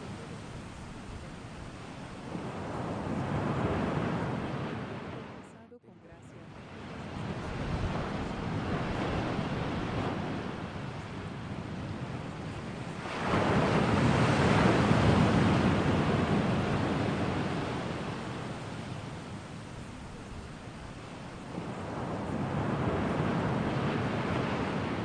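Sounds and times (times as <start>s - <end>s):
ocean surf: 0.0s - 25.0s.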